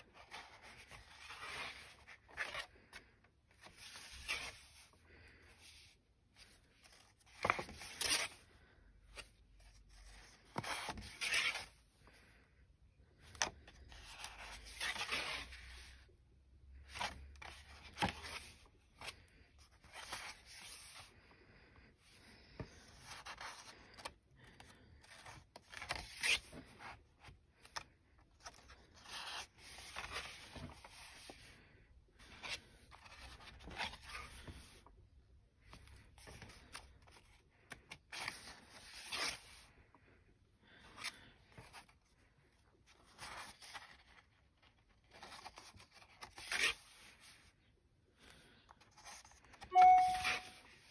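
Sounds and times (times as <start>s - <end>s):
sketchbook pages turning: 0.0s - 11.8s, 13.2s - 16.0s, 16.8s - 21.1s, 22.5s - 34.9s, 35.6s - 39.7s, 40.7s - 47.5s, 48.2s - 50.9s.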